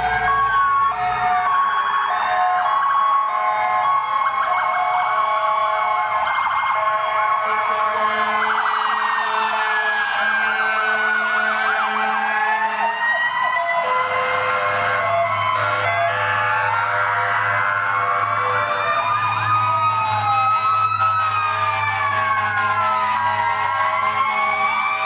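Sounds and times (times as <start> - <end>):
wailing sirens: 0.0 - 25.0
yelping sirens: 0.0 - 25.0.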